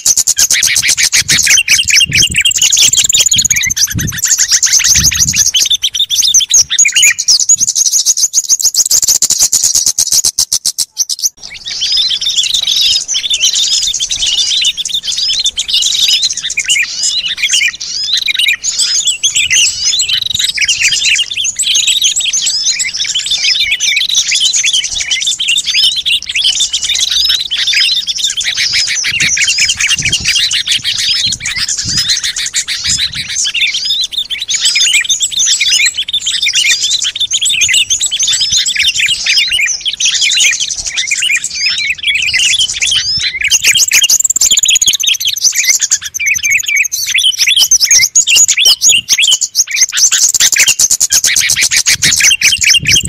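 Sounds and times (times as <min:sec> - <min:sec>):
high sweeping bird calls: 0:00.0 - 0:53.0
songbirds chirping and twittering: 0:00.0 - 0:53.0.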